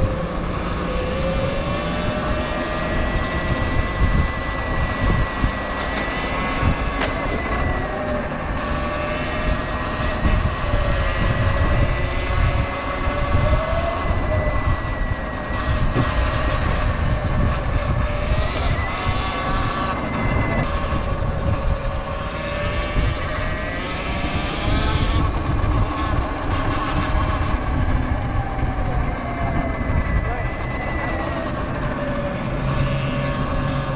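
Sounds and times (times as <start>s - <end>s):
electric motor whine: 0.0s - 33.9s
wind rumble on microphone: 0.0s - 33.9s.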